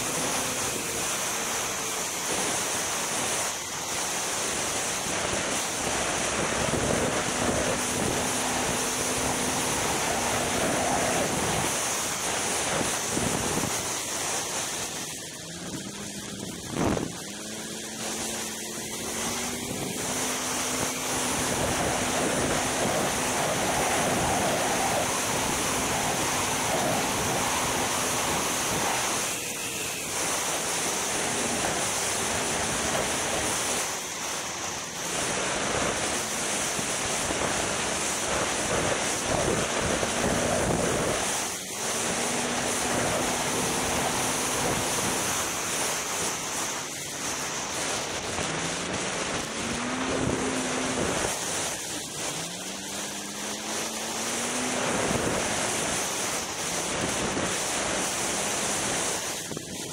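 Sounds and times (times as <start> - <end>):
snowmobile engine drone: 0.0 - 59.9
wind rush over microphone: 0.0 - 59.9.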